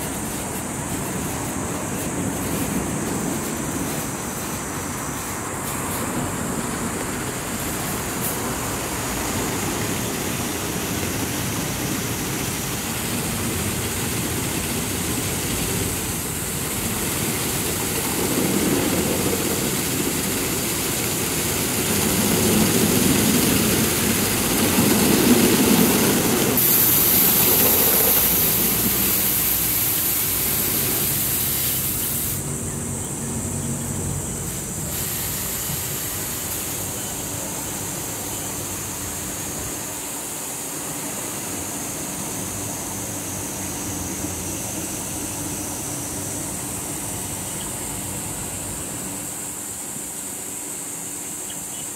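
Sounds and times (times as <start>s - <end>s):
car wash brushes and spray: 0.0s - 32.6s, 34.4s - 50.5s
high hiss: 0.0s - 51.9s.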